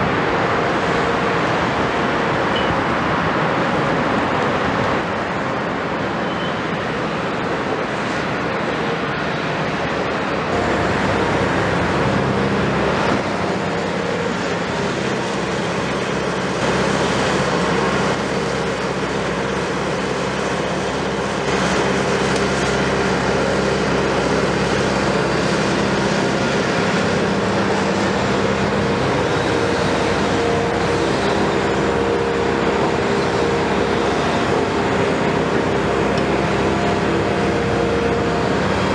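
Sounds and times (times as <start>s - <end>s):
excavator engines and hydraulics: 0.0s - 38.9s.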